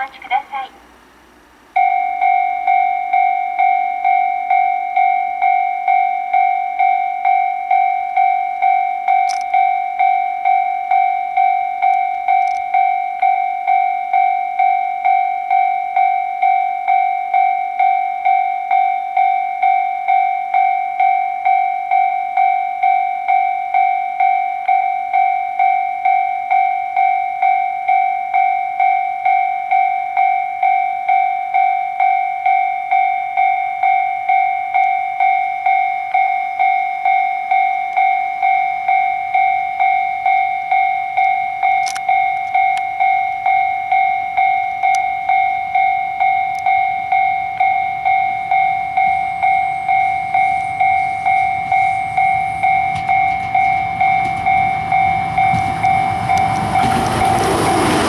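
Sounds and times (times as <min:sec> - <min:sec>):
railway crossing warning bell: 0:00.0 - 0:00.8, 0:01.7 - 0:58.0.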